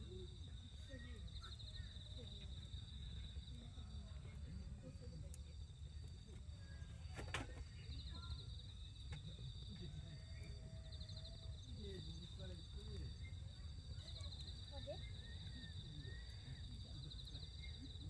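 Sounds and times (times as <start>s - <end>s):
faint distant voices: 0.0s - 18.0s.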